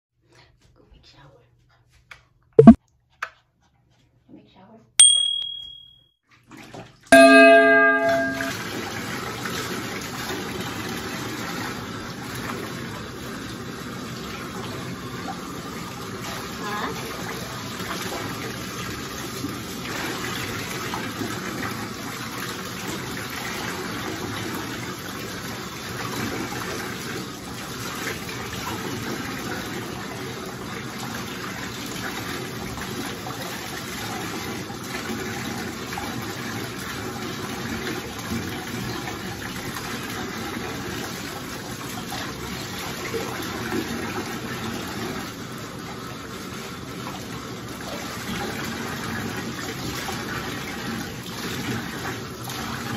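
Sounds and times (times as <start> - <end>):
water running in a bathtub: 6.3 - 52.9.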